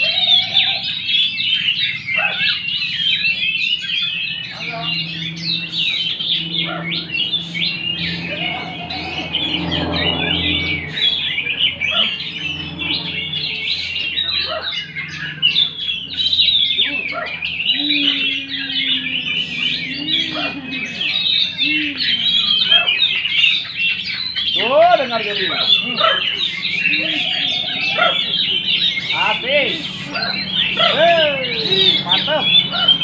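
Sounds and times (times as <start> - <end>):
songbirds chirping and trilling: 0.0 - 33.0.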